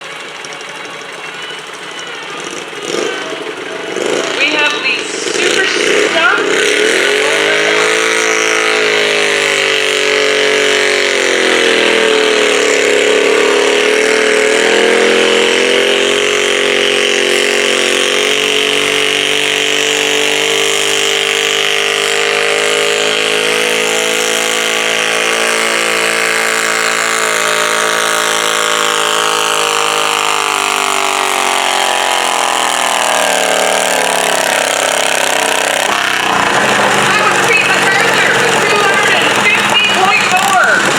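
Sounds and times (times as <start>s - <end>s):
garden tractor engine at high revs: 0.0s - 40.9s.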